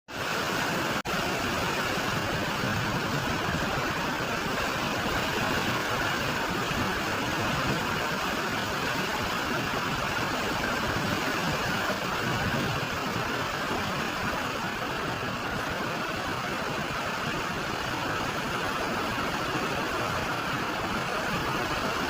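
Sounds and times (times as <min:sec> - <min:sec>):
floodwater rushing down waterfall: 0:00.1 - 0:22.0.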